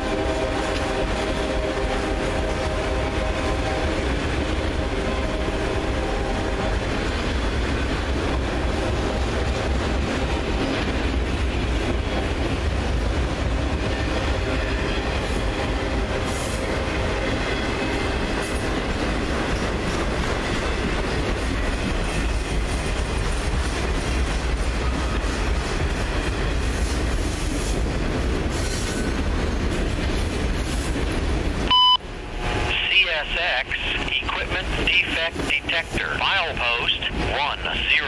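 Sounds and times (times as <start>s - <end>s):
freight train wheels clattering: 0.0s - 31.6s.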